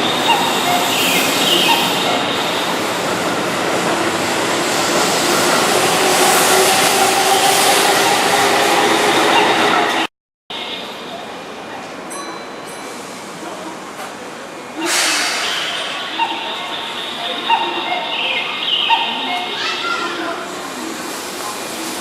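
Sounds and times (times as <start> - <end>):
train rumbling on rails: 0.0 - 10.1, 10.7 - 22.0.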